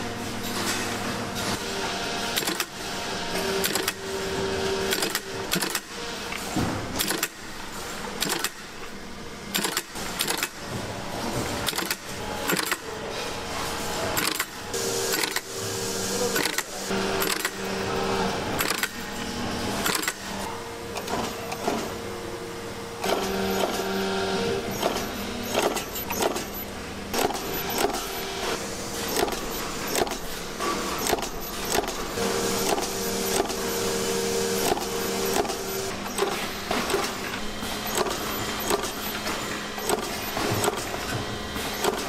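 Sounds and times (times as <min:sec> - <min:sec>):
factory machine hum: 0:00.0 - 0:42.0
machinery clicks and clacks: 0:00.2 - 0:22.0, 0:23.0 - 0:42.0.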